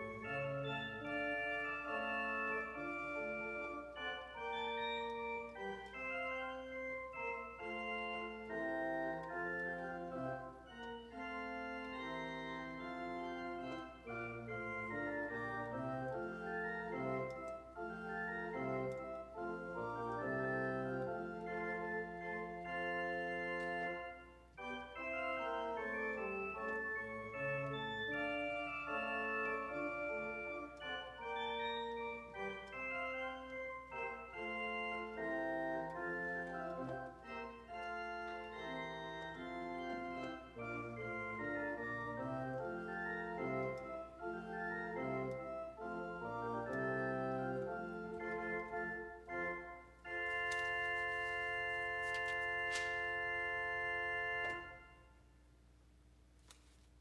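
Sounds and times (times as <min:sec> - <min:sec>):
church organ playing: 0:00.0 - 0:55.4.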